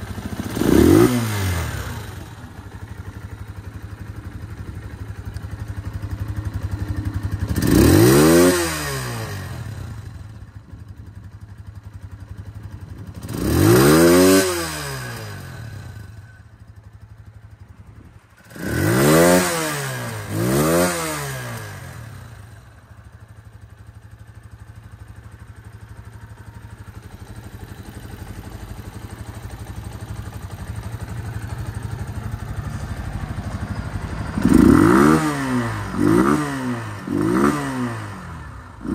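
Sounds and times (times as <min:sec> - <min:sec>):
scooter engine idling and revving: 0:00.0 - 0:38.9.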